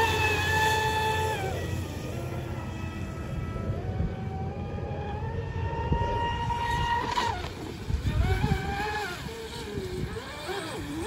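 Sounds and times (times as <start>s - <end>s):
hull rushing on water: 0.0s - 11.0s
model boat motor whining: 0.0s - 11.0s.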